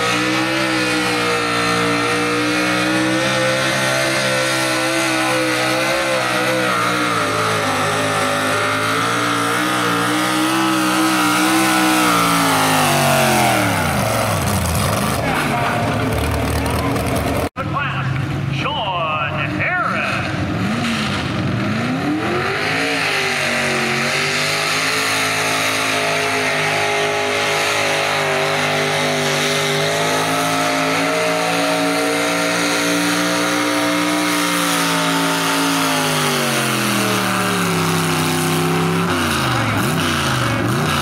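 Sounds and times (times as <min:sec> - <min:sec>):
tractor engine revving: 0:00.0 - 0:41.0.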